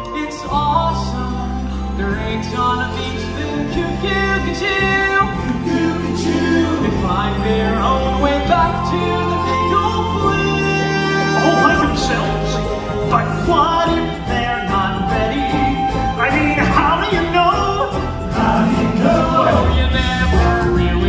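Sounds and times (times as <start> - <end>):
musical song with band: 0.0 - 21.0.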